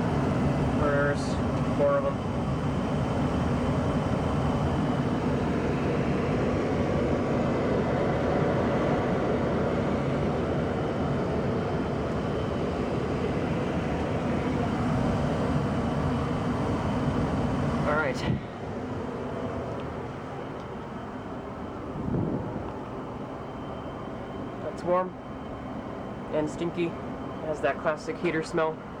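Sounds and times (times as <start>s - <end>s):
fan rushing air: 0.0s - 29.0s
gas furnace burners running: 0.0s - 29.0s.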